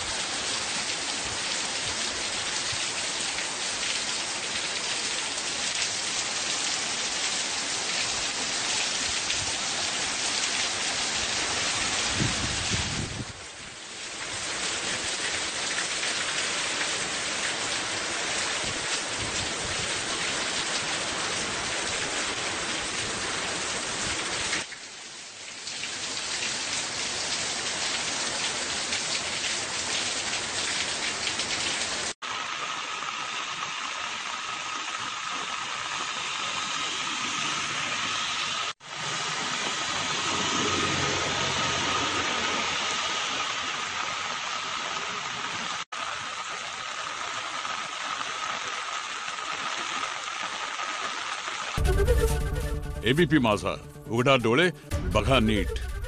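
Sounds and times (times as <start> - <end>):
heavy rain pouring: 0.0 - 53.6.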